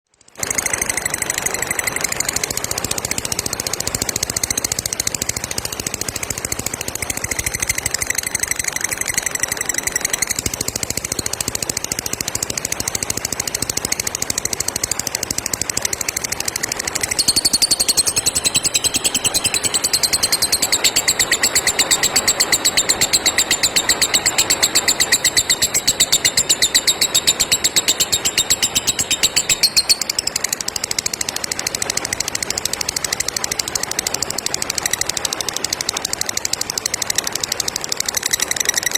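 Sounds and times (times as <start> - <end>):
lovebird rattling trill: 0.3 - 38.9.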